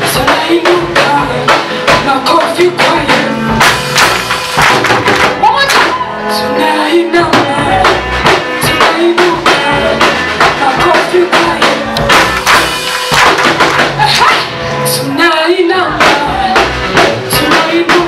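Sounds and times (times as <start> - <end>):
driving drum beat: 0.0 - 6.1, 7.2 - 14.6, 15.9 - 18.0
band playing upbeat gospel: 0.0 - 18.0.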